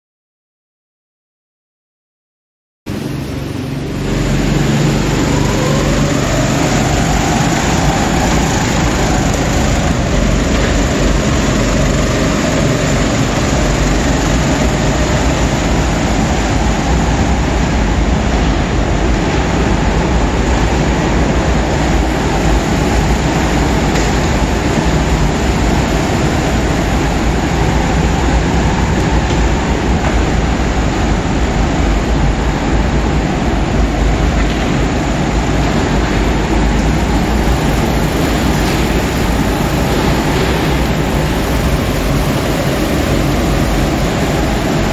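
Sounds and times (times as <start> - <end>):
go-kart motors racing: 2.9 - 44.9.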